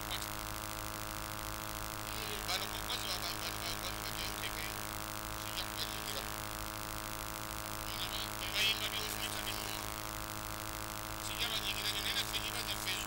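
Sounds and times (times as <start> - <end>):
droning hum: 0.0 - 13.0.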